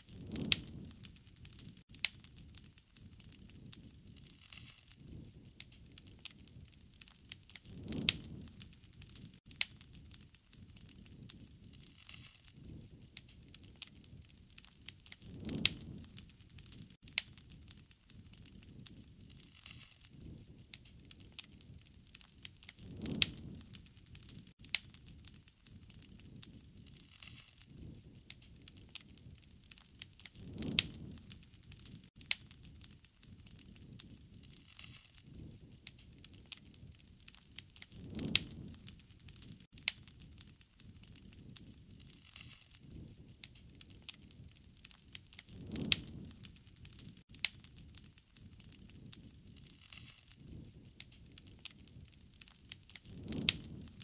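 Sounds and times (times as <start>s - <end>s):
campfire crackling: 0.0s - 54.0s
soft rush of flame: 0.0s - 54.0s.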